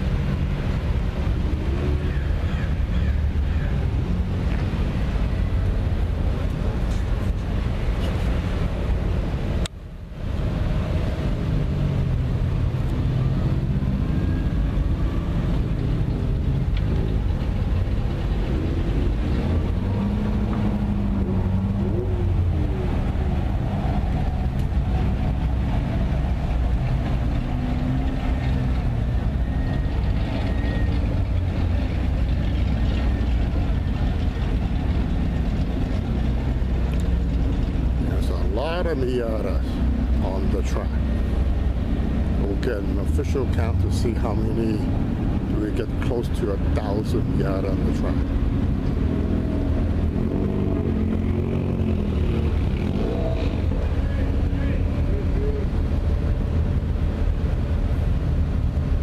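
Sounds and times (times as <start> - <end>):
many car engines at low revs: 0.0 - 59.0.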